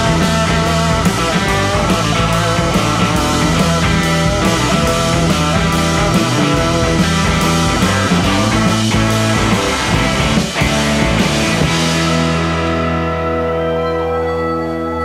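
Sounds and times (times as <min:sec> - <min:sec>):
guitar chord ringing: 0:00.0 - 0:15.0
rock band playing: 0:00.0 - 0:15.0.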